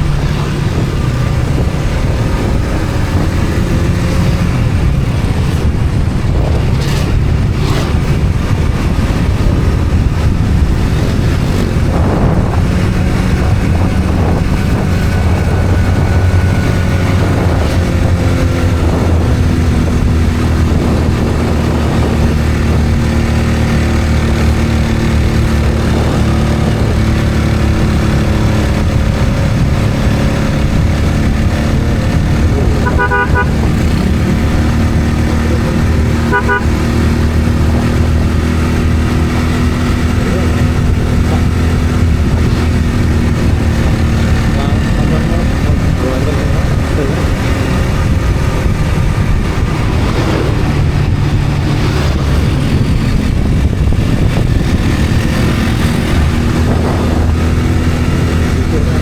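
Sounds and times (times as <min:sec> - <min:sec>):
road and wind noise: 0:00.0 - 0:59.0
vehicle engine drone: 0:00.0 - 0:59.0.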